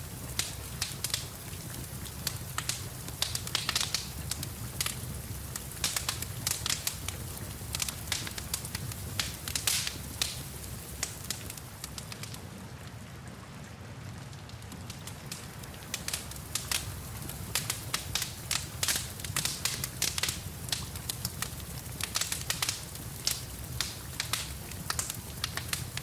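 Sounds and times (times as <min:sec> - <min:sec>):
rain hiss: 0:00.0 - 0:26.0
wood fire crackling: 0:00.0 - 0:26.0.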